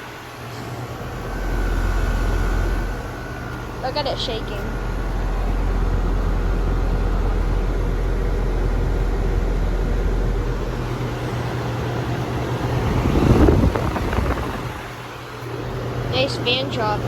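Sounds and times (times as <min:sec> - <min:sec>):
air conditioner fan rushing: 0:00.0 - 0:17.0
compressor low hum: 0:00.0 - 0:17.0.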